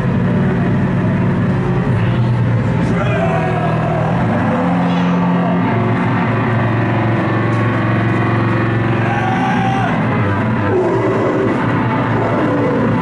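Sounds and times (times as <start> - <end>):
low drones: 0.0 - 13.0
wall of distorted noise: 0.0 - 13.0.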